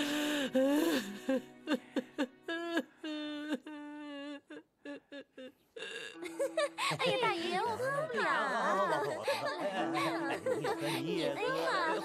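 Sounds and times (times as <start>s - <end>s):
woman sobbing and wailing: 0.0s - 12.0s.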